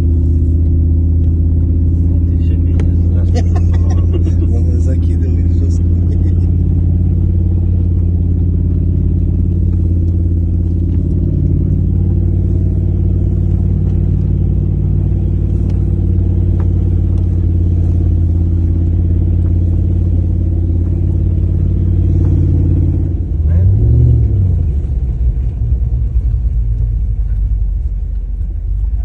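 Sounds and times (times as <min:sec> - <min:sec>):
engine droning under load: 0:00.0 - 0:29.0.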